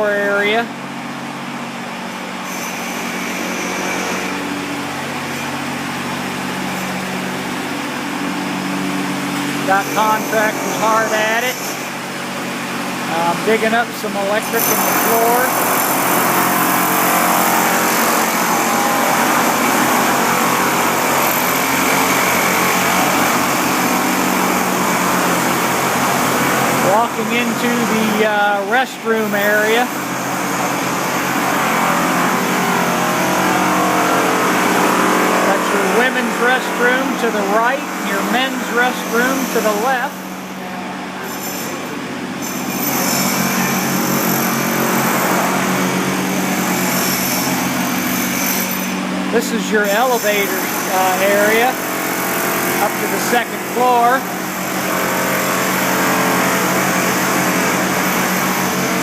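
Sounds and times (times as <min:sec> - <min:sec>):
machine humming: 0:00.0 - 0:59.0.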